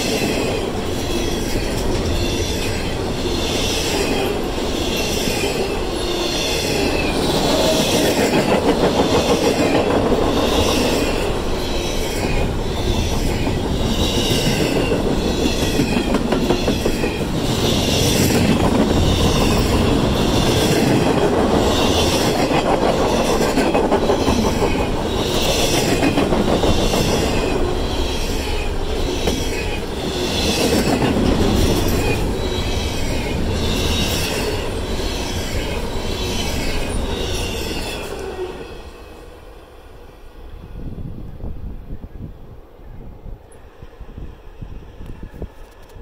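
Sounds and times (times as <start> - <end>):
wheels clacking over rail joints: 0.0 - 38.3
freight train wheels rumbling: 0.0 - 46.0.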